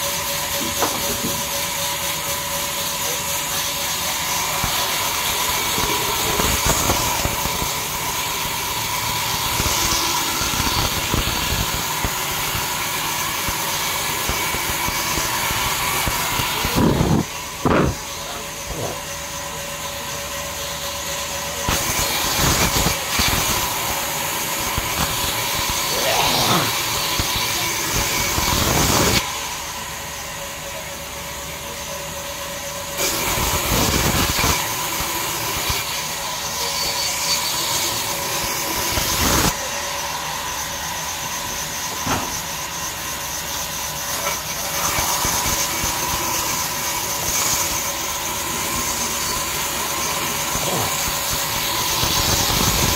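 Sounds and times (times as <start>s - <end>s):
band saw cutting wood: 0.0s - 30.4s, 32.8s - 40.0s, 41.6s - 52.9s.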